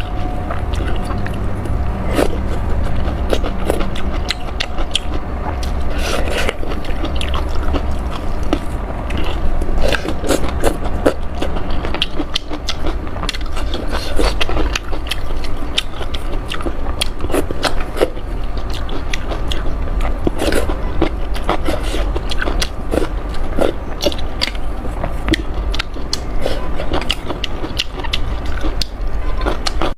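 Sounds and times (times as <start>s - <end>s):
low steady hum: 0.0s - 29.9s
person chewing noodles: 0.0s - 29.9s.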